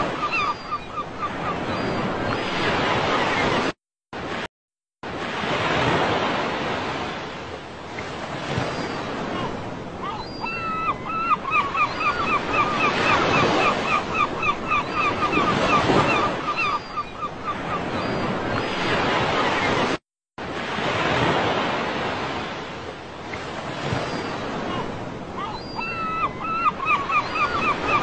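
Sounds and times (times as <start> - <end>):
waves breaking on a beach: 0.0 - 28.0.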